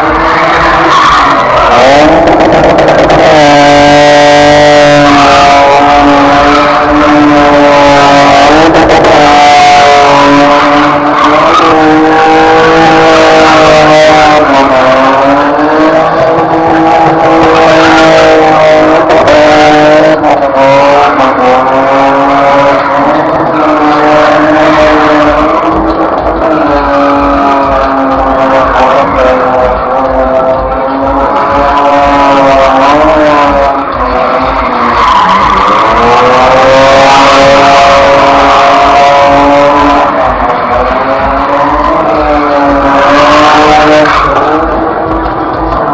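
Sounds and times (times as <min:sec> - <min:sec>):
car engine at high revs: 0:00.0 - 0:45.9
tyre noise: 0:00.0 - 0:45.9.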